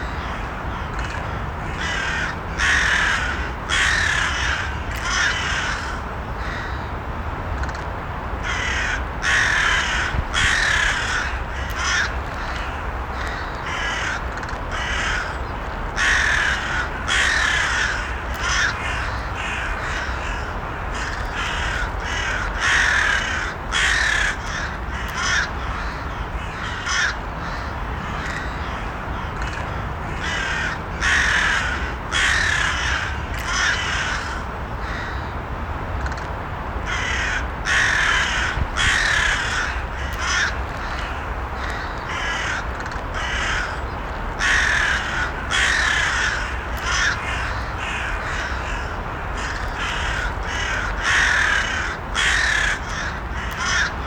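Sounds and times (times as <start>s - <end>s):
crows cawing: 0.1s - 6.9s, 8.4s - 35.3s, 36.9s - 54.0s.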